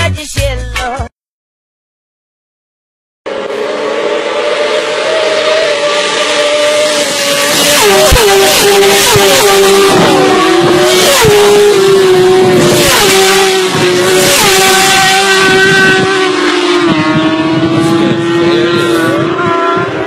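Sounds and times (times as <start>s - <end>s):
engine revving at high revs: 3.3s - 20.0s.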